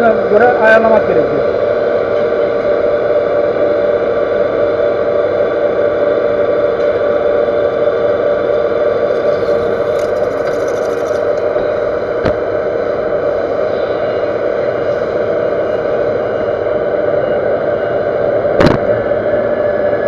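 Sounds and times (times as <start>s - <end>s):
metal lathe machining hum: 0.0s - 20.0s.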